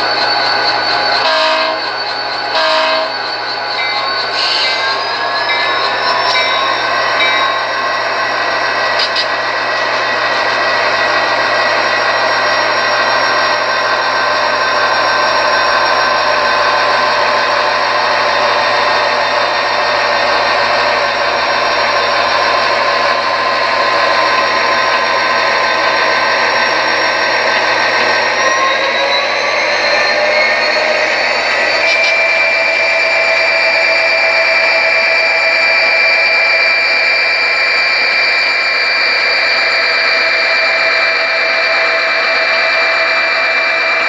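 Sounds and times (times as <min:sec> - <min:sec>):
mechanical drone with whining tones: 0:00.0 - 0:44.0
model locomotives running: 0:00.0 - 0:44.0.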